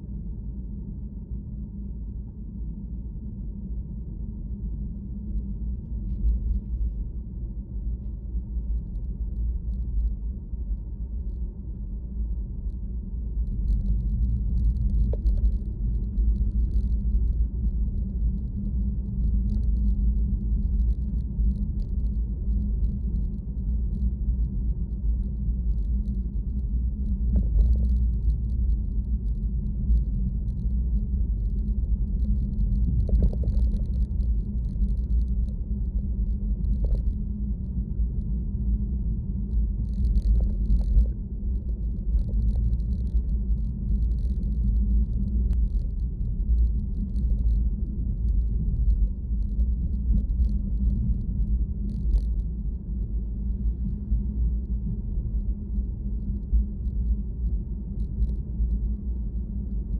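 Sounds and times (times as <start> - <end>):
vehicle low rumble: 0.0 - 59.9.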